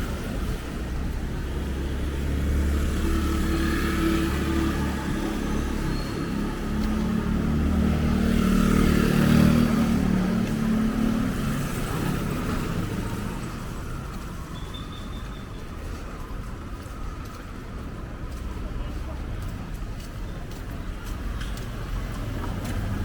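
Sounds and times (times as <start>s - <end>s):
vehicle engine rumble passing: 0.0s - 14.5s, 15.6s - 23.0s.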